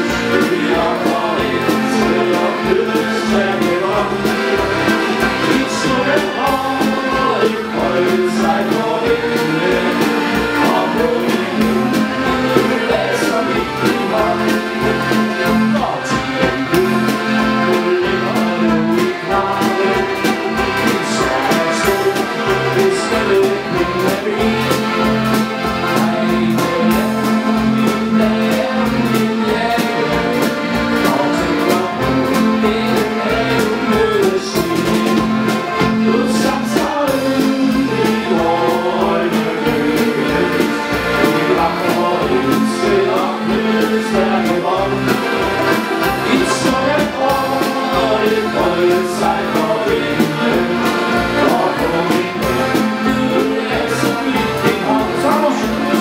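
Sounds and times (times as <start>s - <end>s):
accordion band playing: 0.0s - 56.0s.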